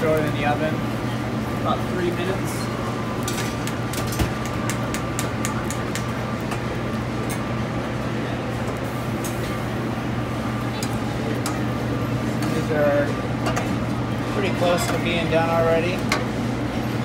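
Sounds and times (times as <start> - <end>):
ventilation hood drone: 0.0 - 17.0.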